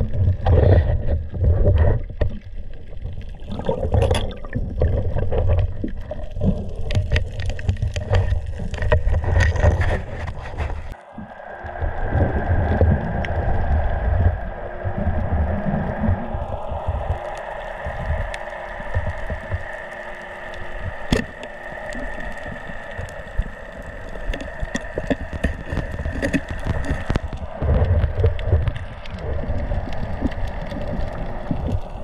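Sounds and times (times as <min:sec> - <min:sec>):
underwater rumbling surges: 0:00.0 - 0:32.0.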